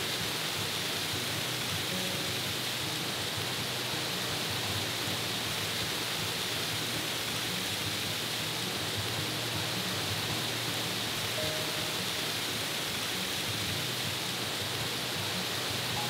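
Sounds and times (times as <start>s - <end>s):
creek water cascading over rocks: 0.0s - 16.0s.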